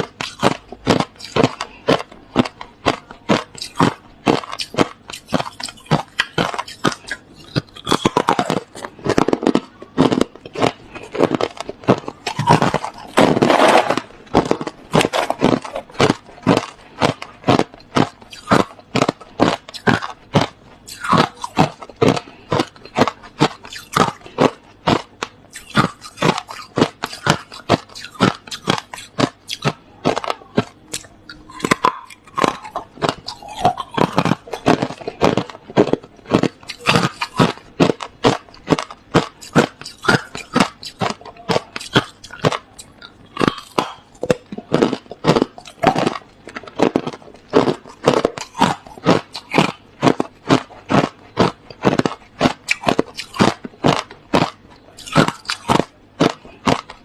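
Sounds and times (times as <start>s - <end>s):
chewing crushed ice: 0.0s - 57.0s.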